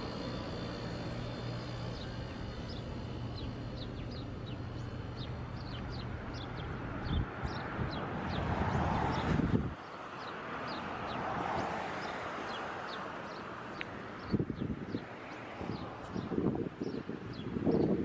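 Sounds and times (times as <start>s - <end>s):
small birds chirping: 0.0s - 18.0s
street traffic hum: 0.0s - 18.0s.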